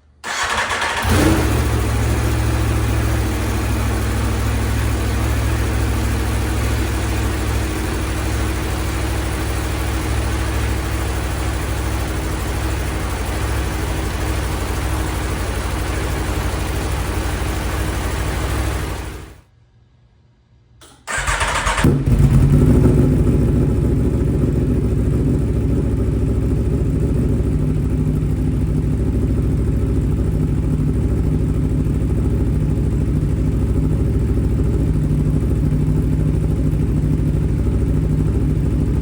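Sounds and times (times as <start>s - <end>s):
motorcycle engine idling: 0.2s - 19.4s, 21.0s - 39.0s.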